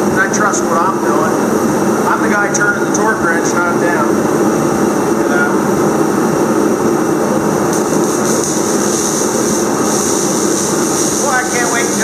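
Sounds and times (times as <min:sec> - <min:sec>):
machine drone with hiss: 0:00.0 - 0:12.0.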